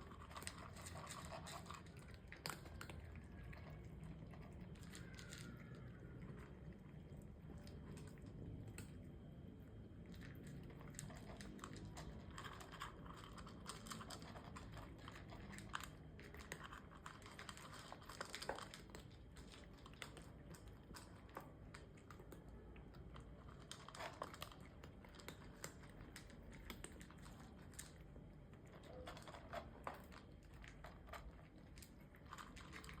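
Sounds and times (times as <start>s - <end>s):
cats chewing food: 0.0s - 33.0s.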